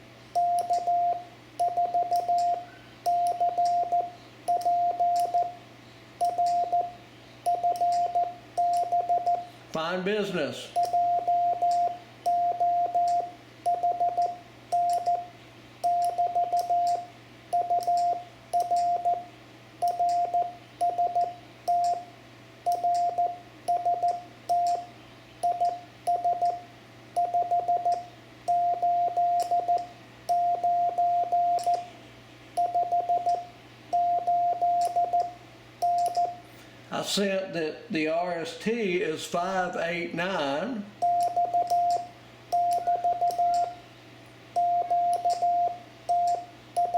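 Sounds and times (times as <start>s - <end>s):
morse code beep tone: 0.4s - 5.6s, 6.2s - 9.6s, 10.7s - 22.1s, 22.7s - 26.6s, 27.2s - 31.9s, 32.6s - 36.4s, 41.0s - 43.8s, 44.6s - 46.9s.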